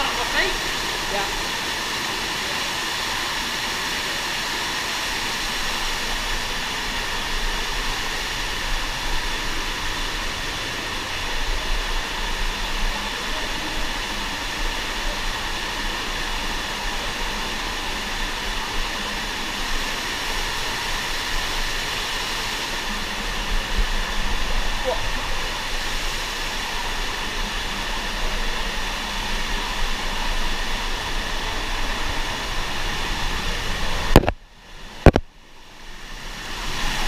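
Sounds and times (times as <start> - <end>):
steady rushing noise: 0.0 - 37.0.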